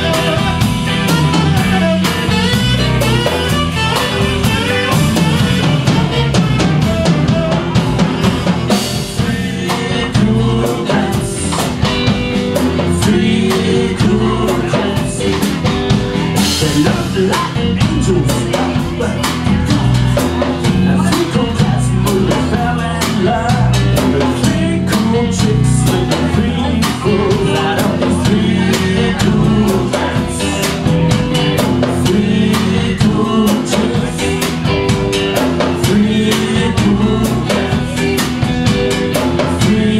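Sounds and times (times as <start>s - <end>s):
live rhythm and blues band: 0.0s - 39.9s.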